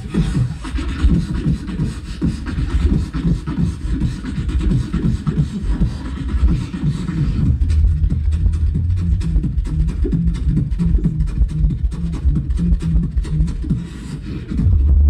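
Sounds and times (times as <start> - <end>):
beatboxing through speakers: 0.0 - 15.0.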